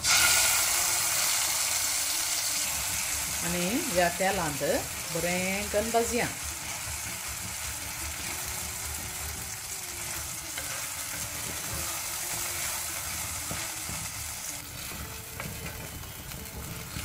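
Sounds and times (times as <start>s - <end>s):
paste sizzling in oil: 0.0s - 17.0s.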